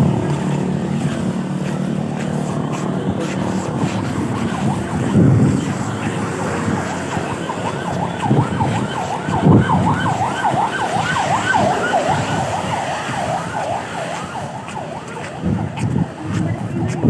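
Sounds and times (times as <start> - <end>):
ambulance siren yelping: 0.0 - 16.7
road traffic rumble: 0.0 - 17.0.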